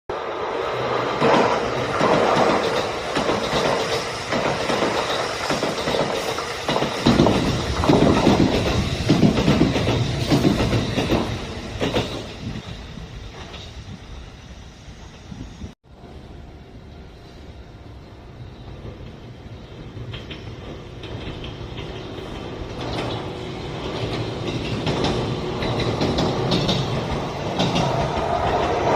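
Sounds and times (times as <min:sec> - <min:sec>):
electric train passing: 0:00.1 - 0:28.9
train wheels clattering: 0:00.9 - 0:14.0, 0:18.6 - 0:28.9.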